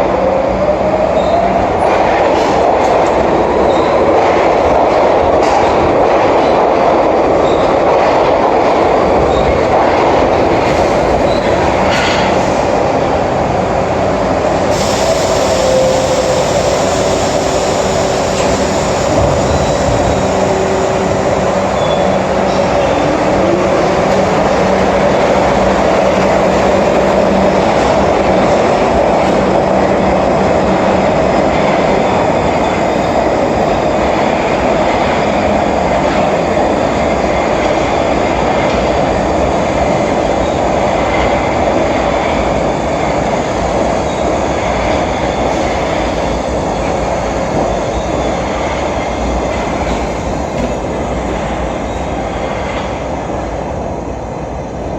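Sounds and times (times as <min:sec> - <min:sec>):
subway train rumbling on track: 0:00.0 - 0:54.9
rail clatter: 0:01.7 - 0:53.1.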